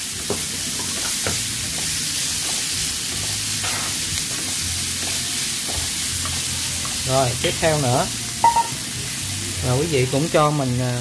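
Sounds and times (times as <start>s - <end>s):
greens sizzling in a pan: 0.0s - 11.0s.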